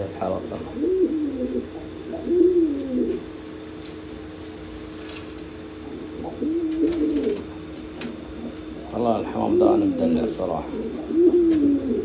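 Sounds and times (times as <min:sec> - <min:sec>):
pigeons cooing: 0:00.0 - 0:12.0
steady low hum: 0:00.0 - 0:12.0.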